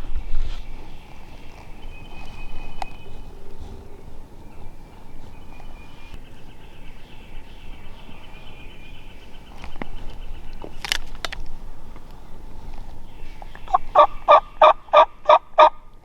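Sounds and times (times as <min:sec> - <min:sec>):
bird trilling: 0:00.0 - 0:15.9
wind rumbling on microphone: 0:00.0 - 0:16.0.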